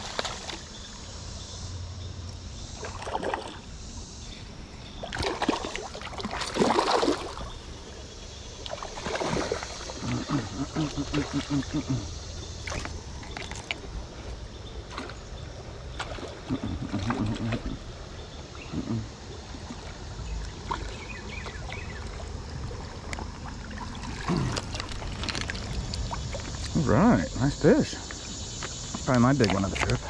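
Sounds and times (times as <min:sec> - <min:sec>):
stream water splashing around legs: 0:00.0 - 0:01.2, 0:02.7 - 0:03.8, 0:04.9 - 0:30.0.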